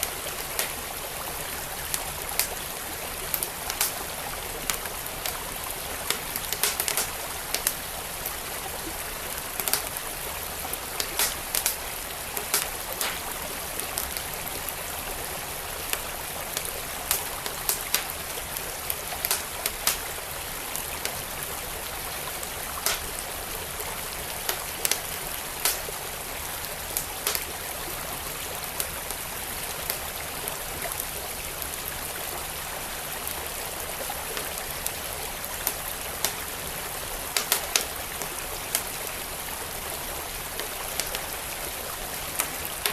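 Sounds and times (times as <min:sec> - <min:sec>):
wood fire crackling: 0:00.0 - 0:31.3, 0:33.3 - 0:42.9
flowing creek: 0:00.0 - 0:42.9.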